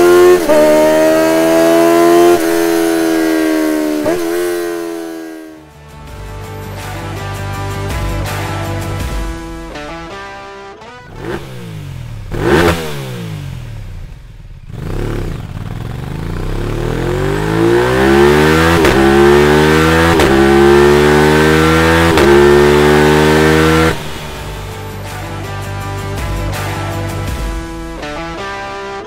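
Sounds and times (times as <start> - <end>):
motorcycle engine revving: 0.0 - 5.7, 10.9 - 29.0.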